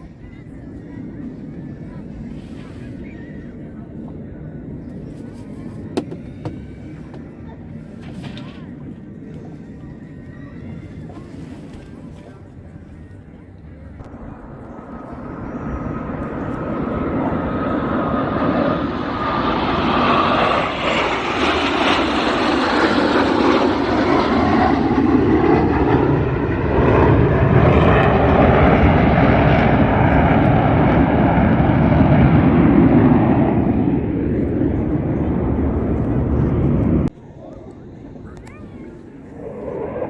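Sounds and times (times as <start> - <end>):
aircraft engine passing over: 0.0 - 40.0.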